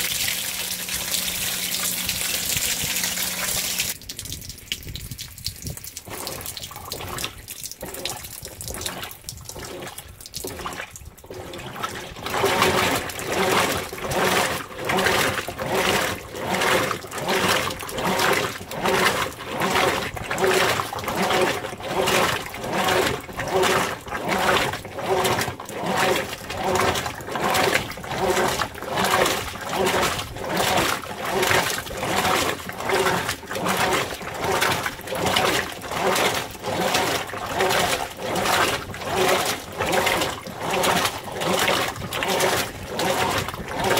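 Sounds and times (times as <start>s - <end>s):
washing machine agitating: 0.0s - 43.9s
water sloshing: 0.0s - 43.9s
water trickling: 0.0s - 43.9s.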